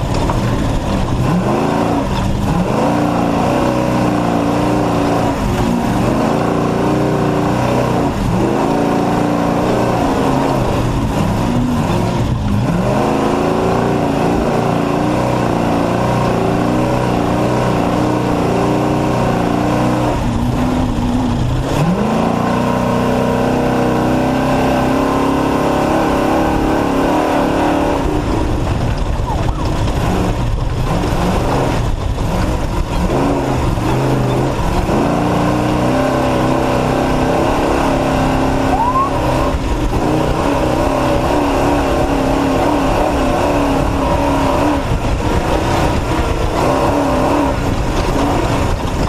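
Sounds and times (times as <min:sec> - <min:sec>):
rumble of driving noise: 0:00.0 - 0:49.0
truck engine running hard: 0:00.0 - 0:49.0.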